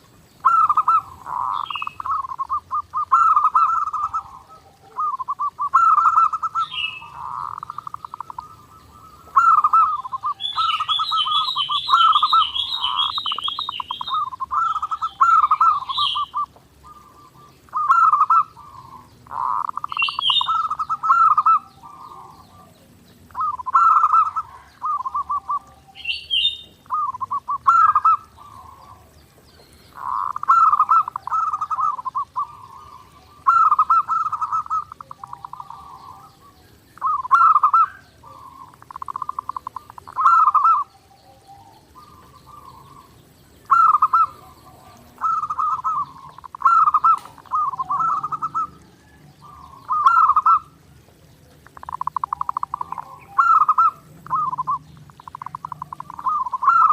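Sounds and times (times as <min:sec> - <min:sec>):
doves cooing: 0:00.0 - 0:56.9
small birds chirping and trilling: 0:00.0 - 0:56.9.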